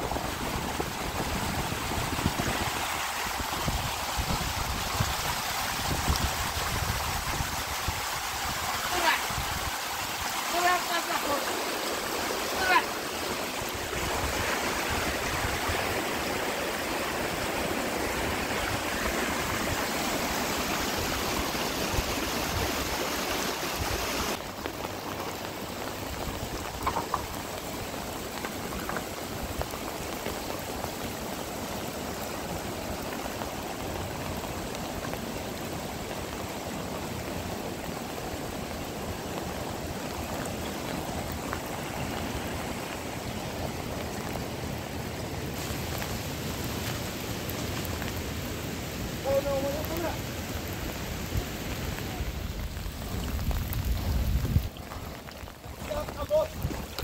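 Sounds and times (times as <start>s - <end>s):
heavy rain: 0.0s - 57.0s
running water: 0.0s - 57.0s.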